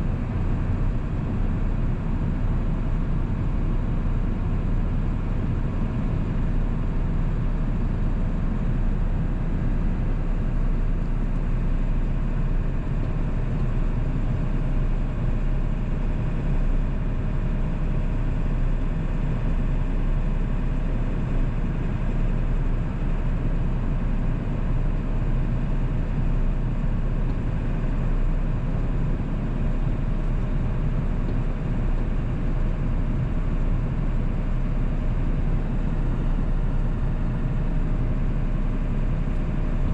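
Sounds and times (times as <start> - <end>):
diesel engine running while driving: 0.0 - 39.9.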